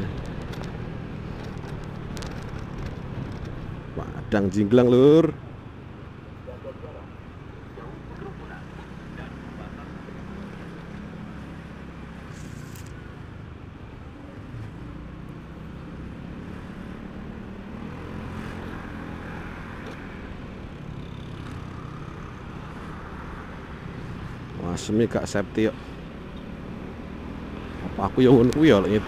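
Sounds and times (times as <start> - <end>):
traffic noise: 0.0 - 29.0.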